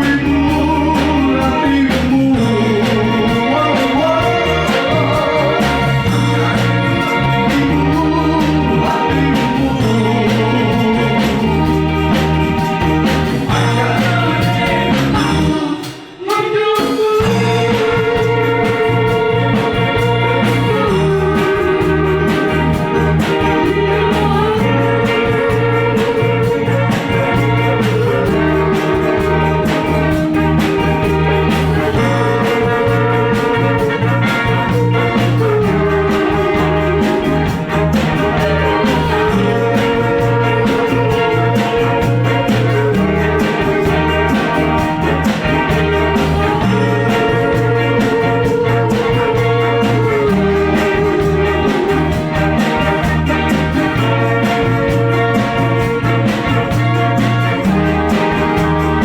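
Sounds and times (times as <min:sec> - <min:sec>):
sustained chords: 0:00.0 - 0:16.2, 0:17.2 - 0:59.0
bass line: 0:00.0 - 0:59.0
steady drum beat: 0:00.0 - 0:59.0.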